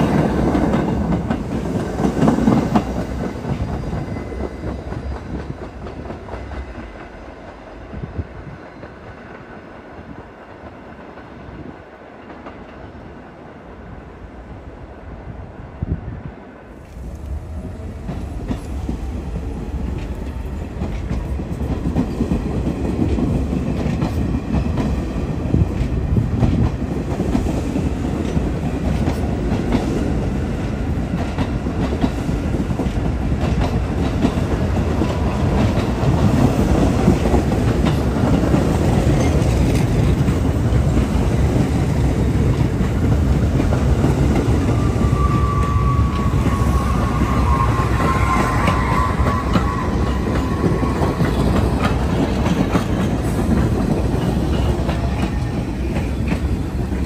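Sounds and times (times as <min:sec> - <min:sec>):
subway trains rumbling and clattering: 0:00.0 - 0:57.0.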